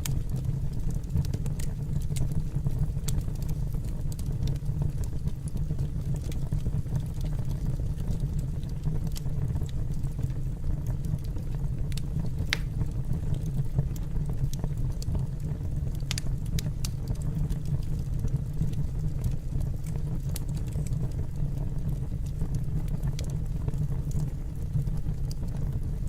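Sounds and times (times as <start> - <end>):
fire crackles and pops: 0.0 - 26.0
fire flames rumbling: 0.0 - 26.0.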